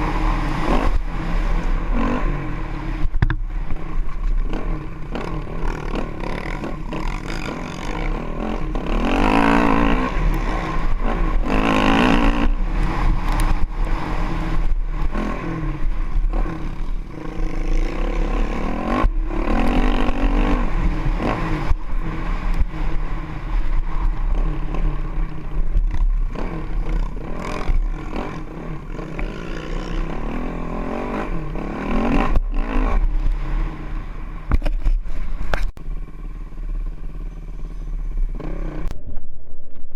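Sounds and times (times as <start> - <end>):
wind rumbling on microphone: 0.0 - 37.1, 37.8 - 39.9
motorcycle engine revving: 0.0 - 39.0.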